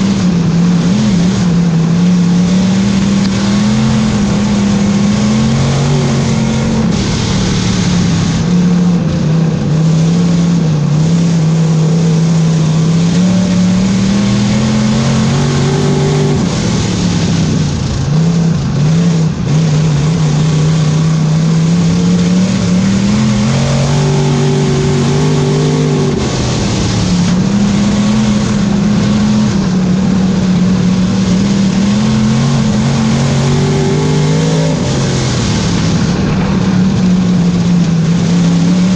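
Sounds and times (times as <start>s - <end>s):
race car engine running hard: 0.0s - 38.9s
rushing noise: 0.0s - 38.9s.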